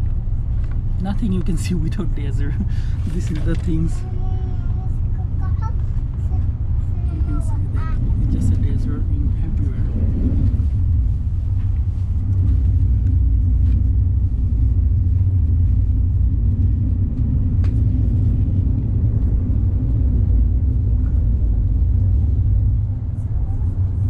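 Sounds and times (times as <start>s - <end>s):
train rumble inside carriage: 0.0s - 24.0s.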